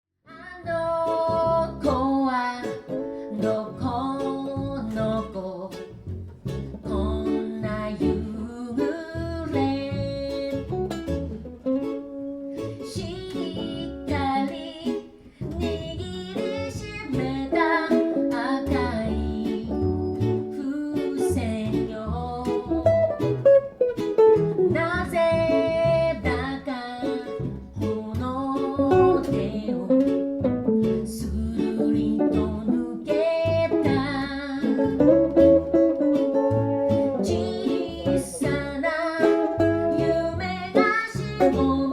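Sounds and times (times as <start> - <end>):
person singing: 0.3 - 5.9, 6.8 - 10.8, 12.1 - 23.2, 24.7 - 41.9
live reggae band: 2.6 - 41.9.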